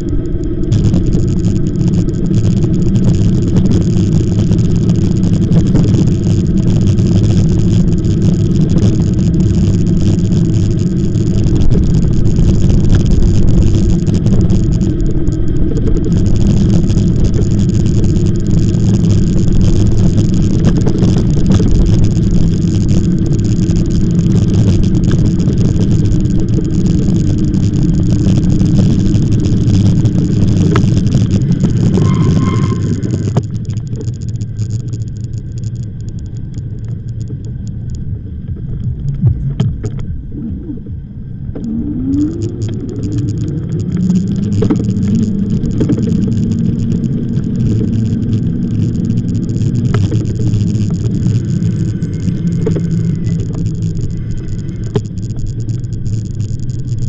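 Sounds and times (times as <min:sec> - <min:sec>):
short rising whine: 0:00.0 - 0:36.3, 0:37.0 - 0:57.0
e-bike rolling noise: 0:00.0 - 0:57.0
low hum: 0:00.0 - 0:57.0.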